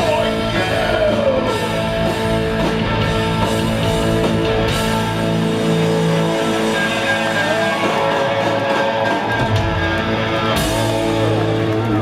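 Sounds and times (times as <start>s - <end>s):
electric guitars: 0.0s - 12.0s
live rock band playing: 0.0s - 12.0s.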